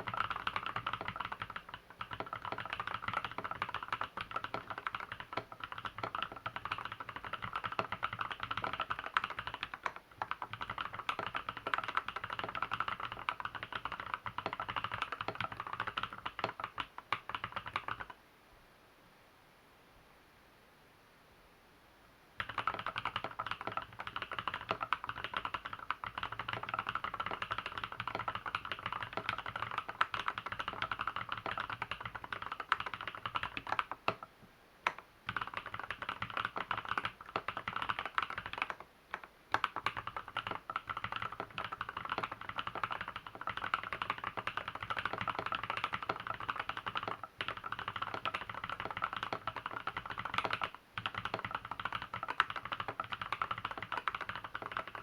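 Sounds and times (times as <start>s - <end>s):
fast keyboard typing: 0.0s - 18.2s, 22.4s - 55.0s.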